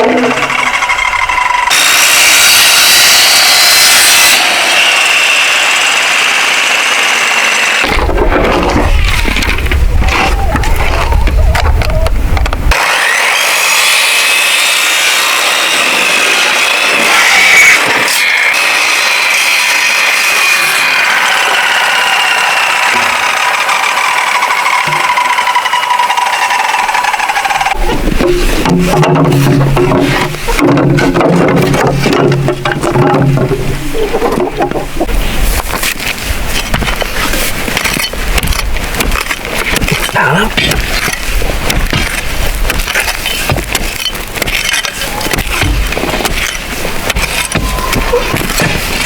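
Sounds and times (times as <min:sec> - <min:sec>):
power tool cutting: 0:00.0 - 0:09.5, 0:12.7 - 0:33.7, 0:36.6 - 0:49.0.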